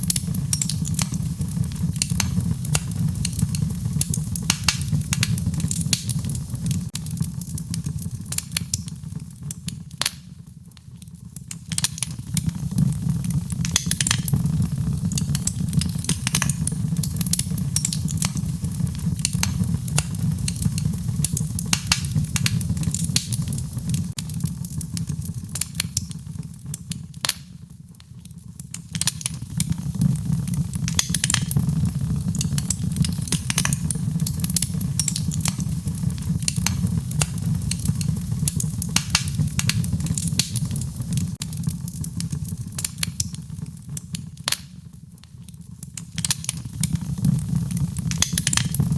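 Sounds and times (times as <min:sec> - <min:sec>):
low rumble of flames: 0:00.0 - 0:48.9
wood fire crackling: 0:00.0 - 0:48.9.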